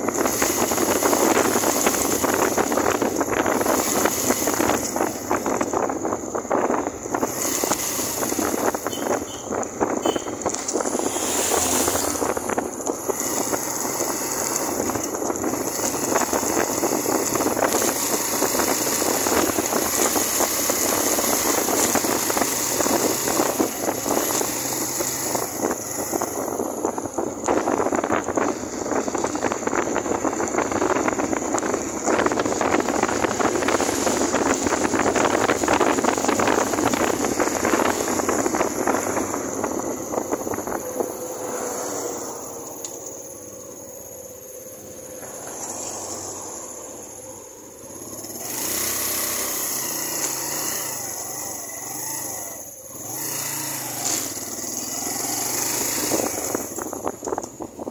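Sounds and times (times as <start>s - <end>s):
motorcycle engine running: 0.0s - 57.9s
wind buffeting microphone: 0.0s - 57.9s.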